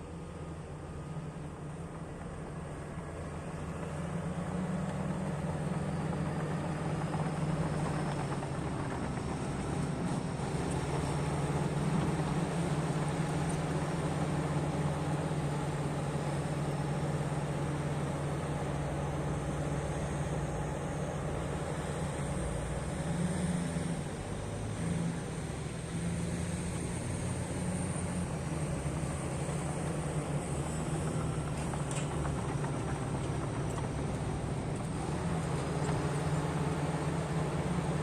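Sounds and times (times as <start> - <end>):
diesel earthmoving machine droning: 0.0 - 38.0.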